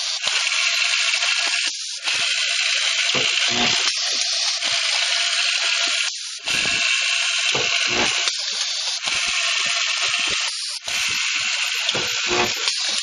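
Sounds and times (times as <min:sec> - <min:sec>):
vibratory feeders buzzing: 0:00.0 - 0:13.0.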